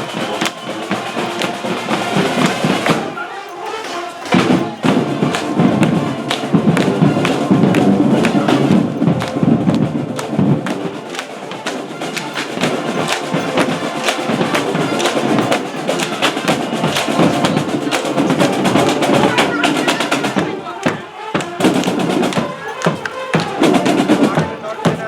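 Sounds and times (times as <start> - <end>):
drumline drum strikes: 0.0 - 25.0
marching band brass: 0.0 - 25.0.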